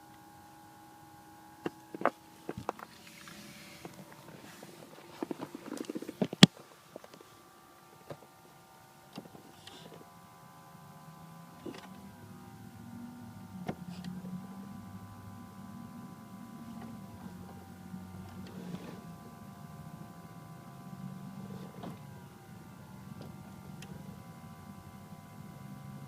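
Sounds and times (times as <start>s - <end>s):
high electrical whine: 0.0s - 26.0s
low hum: 0.0s - 26.0s.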